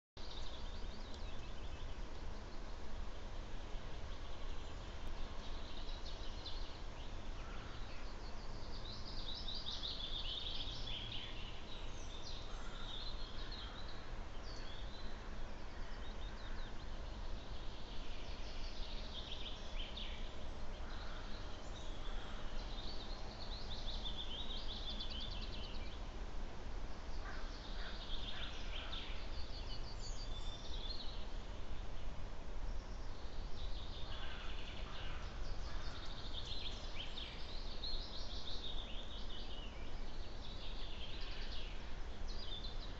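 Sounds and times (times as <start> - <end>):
songbirds singing: 0.2 - 42.9.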